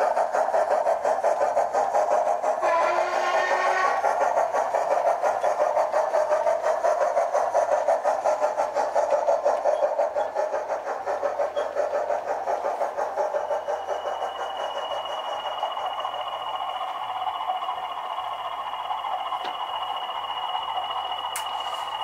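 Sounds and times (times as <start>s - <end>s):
model steam locomotive exhaust beats: 0.0s - 22.0s.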